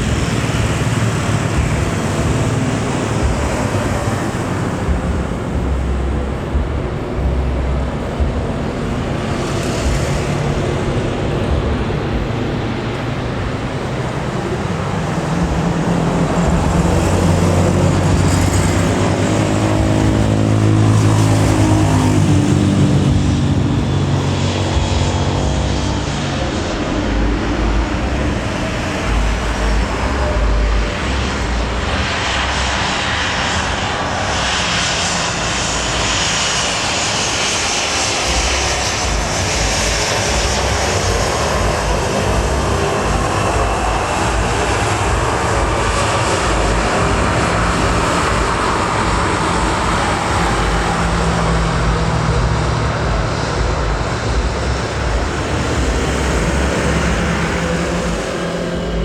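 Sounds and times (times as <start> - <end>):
jet engines passing with whine: 0.0 - 59.0.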